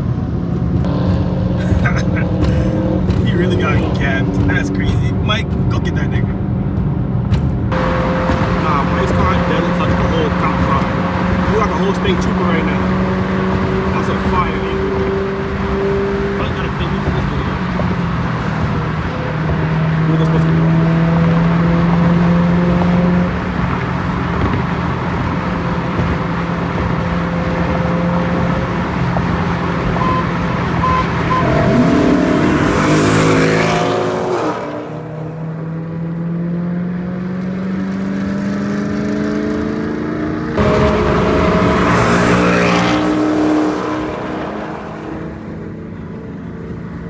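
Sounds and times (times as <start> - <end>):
car engine accelerating: 0.0 - 47.0.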